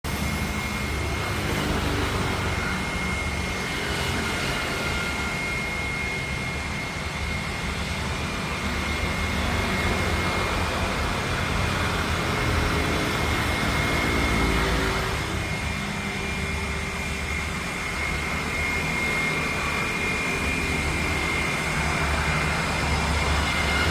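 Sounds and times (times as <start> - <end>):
jet engines rumbling and whining: 0.0 - 23.9.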